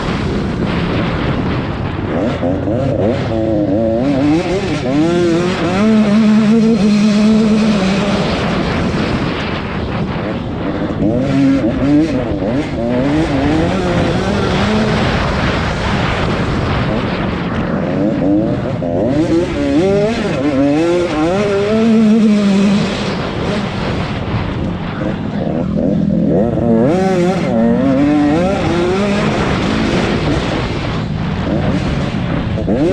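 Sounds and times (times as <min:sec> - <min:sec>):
racing engines revving: 0:00.0 - 0:32.9.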